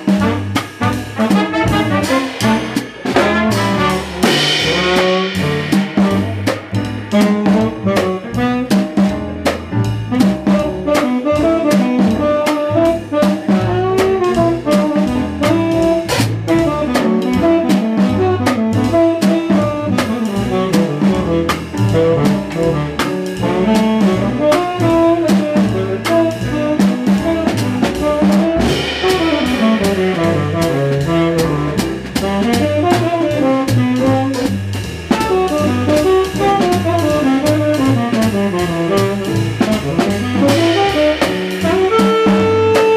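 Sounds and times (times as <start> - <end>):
horn melody: 0.0 - 9.3, 10.1 - 42.9
double bass: 0.0 - 42.9
piano: 0.0 - 42.9
ride cymbal swing beat: 0.0 - 42.9.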